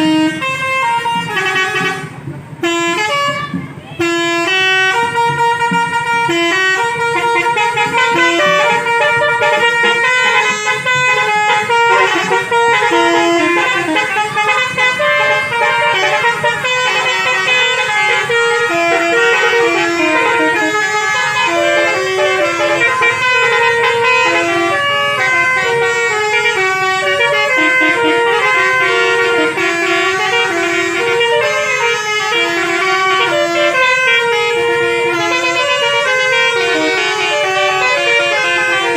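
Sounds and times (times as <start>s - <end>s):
musical air horns playing tunes: 0.0s - 38.9s.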